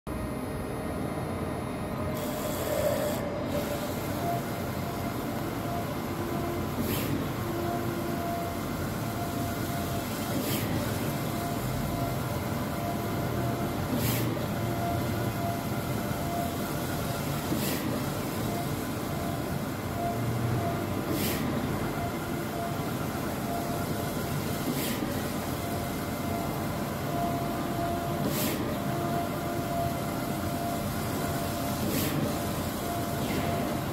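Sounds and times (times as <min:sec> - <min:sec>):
printer machine running: 0:00.2 - 0:33.9.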